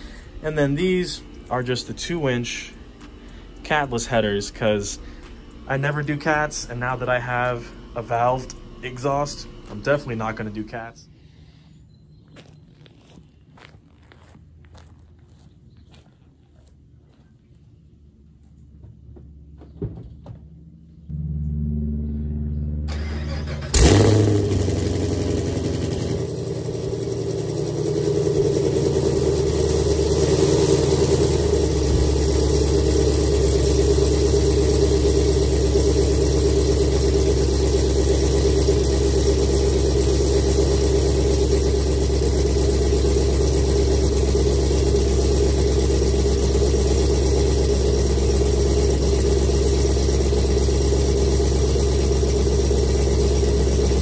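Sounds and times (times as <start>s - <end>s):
car engine starting and idling: 0.0s - 11.4s, 18.5s - 54.0s.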